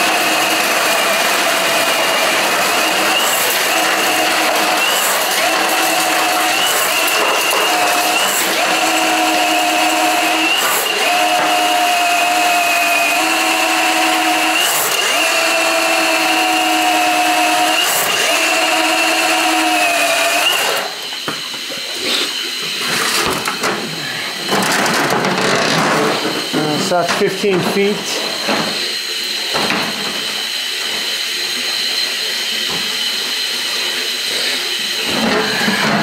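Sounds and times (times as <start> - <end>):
drain-cleaning machine motor whine: 0.0 - 36.0.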